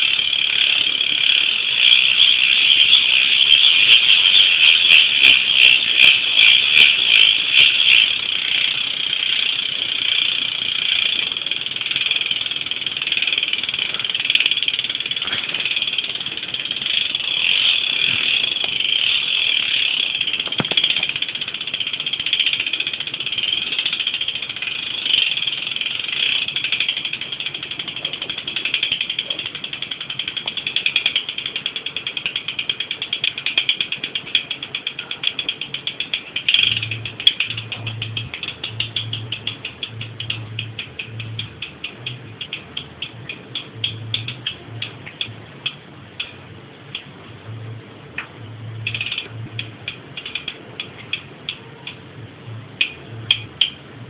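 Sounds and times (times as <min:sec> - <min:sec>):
bicycle hub freewheel ratcheting: 0:00.0 - 0:54.0.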